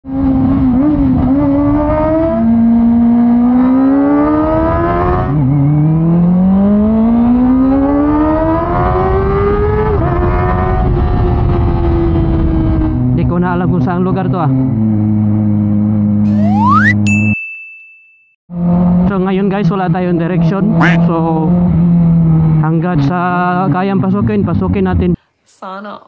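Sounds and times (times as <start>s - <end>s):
motorcycle engine revving while riding: 0.1s - 16.3s, 18.5s - 24.7s.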